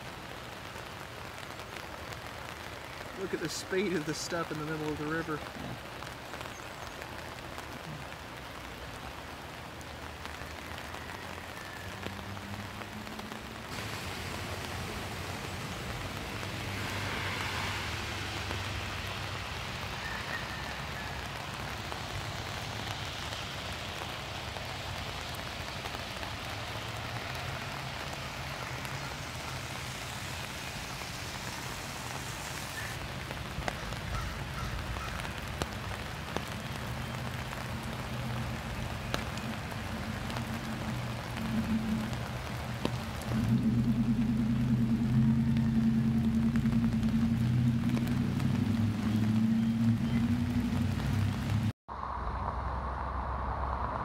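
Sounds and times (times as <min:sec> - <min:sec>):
rain and rushing river: 0:00.0 - 0:54.0.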